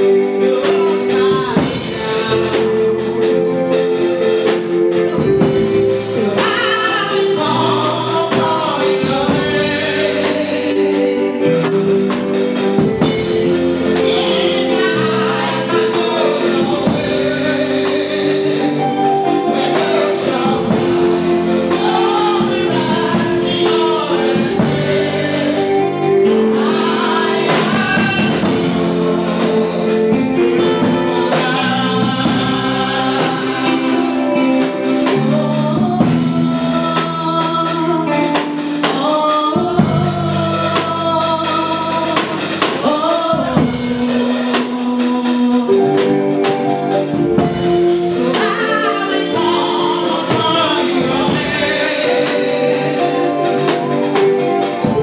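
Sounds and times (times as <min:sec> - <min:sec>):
gospel music with singing and drums: 0:00.0 - 0:55.0.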